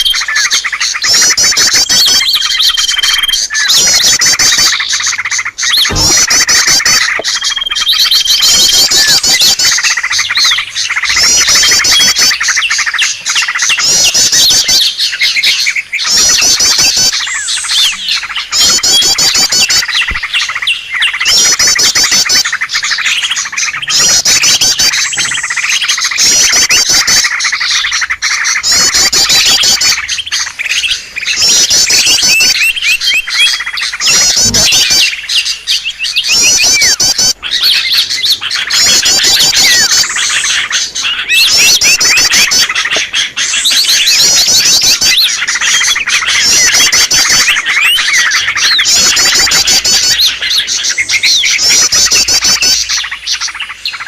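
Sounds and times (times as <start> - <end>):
fast high bird trill: 0.0 - 54.0
small birds chirping: 0.0 - 54.0.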